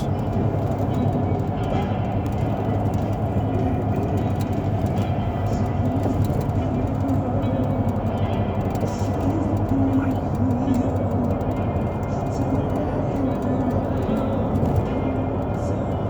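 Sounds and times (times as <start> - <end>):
road noise: 0.0 - 16.0
vehicle engine rumble: 0.0 - 16.0.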